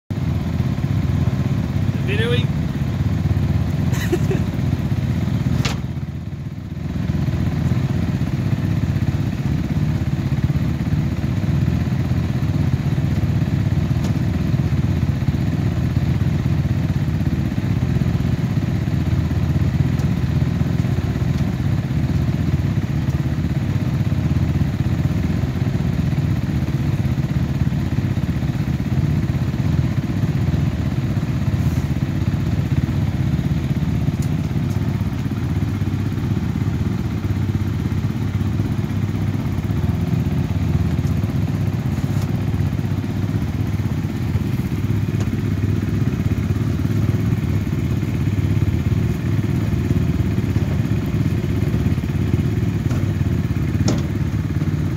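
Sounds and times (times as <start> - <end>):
engine idling drone: 0.1 - 54.9.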